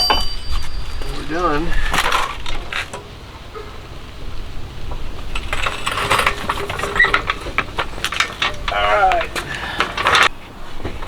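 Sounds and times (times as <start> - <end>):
metal tools clinking: 0.0 - 10.3.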